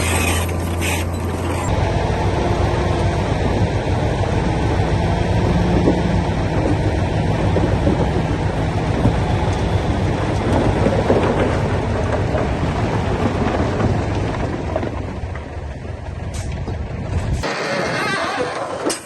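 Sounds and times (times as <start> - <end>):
diesel engine under load: 0.0 - 19.0
tracks crackling and pushed soil: 0.0 - 19.0.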